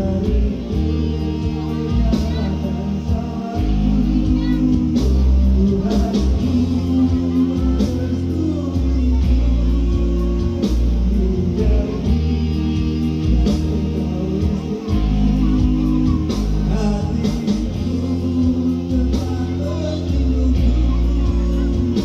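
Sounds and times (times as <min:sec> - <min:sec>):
song with guitar and heavy bass: 0:00.0 - 0:22.0.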